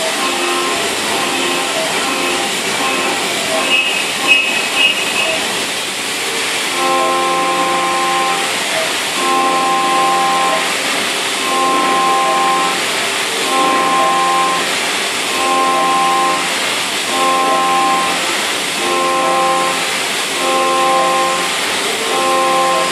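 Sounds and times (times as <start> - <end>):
milling cutter whine: 0.0 - 22.9.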